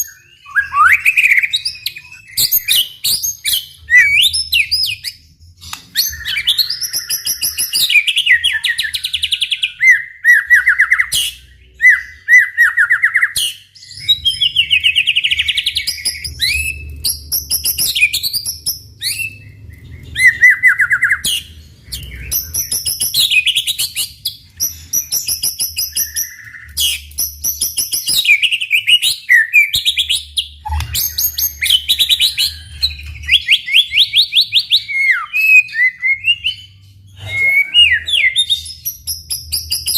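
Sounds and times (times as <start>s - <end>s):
songbird singing trills and whistles: 0.0s - 39.9s.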